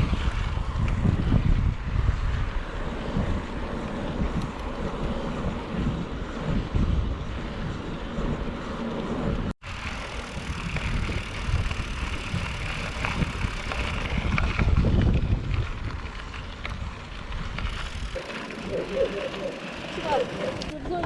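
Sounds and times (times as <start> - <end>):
bicycle tyre and road noise: 0.0 - 21.0
wind buffeting microphone: 0.0 - 21.0.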